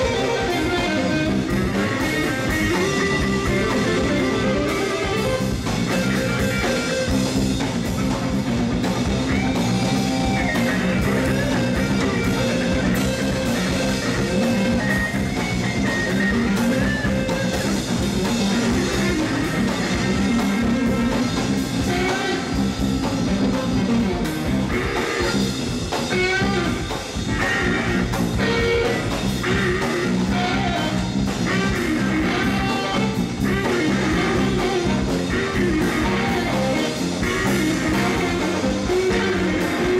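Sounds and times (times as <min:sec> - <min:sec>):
drum kit: 0:00.0 - 0:39.9
electric guitars playing rock blues: 0:00.0 - 0:39.9
lead guitar with bent notes: 0:00.0 - 0:39.9.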